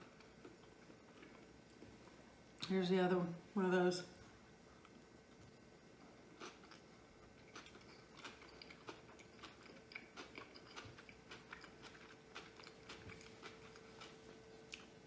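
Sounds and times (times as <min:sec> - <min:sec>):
soft chewing: 0:00.0 - 0:02.7, 0:04.2 - 0:15.0
faint steady hum: 0:00.0 - 0:15.0.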